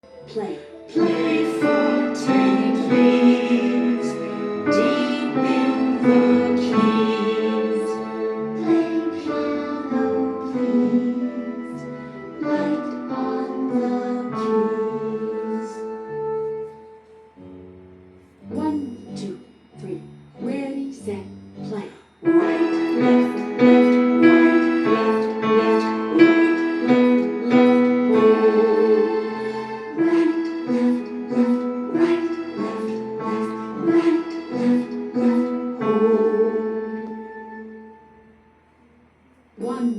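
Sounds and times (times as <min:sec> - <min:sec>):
slow gentle piano piece: 0:00.0 - 0:20.5, 0:21.5 - 0:38.9.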